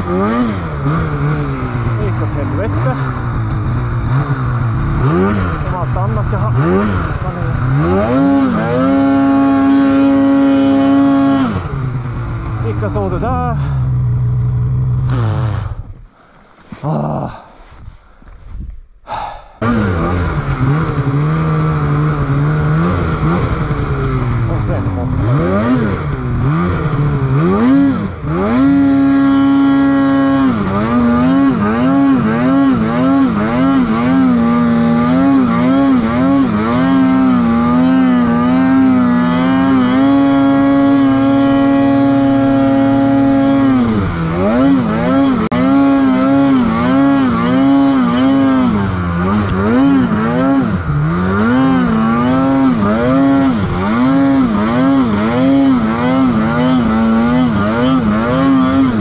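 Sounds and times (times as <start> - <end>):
snowmobile engine revving: 0.0 - 17.4, 19.1 - 59.0.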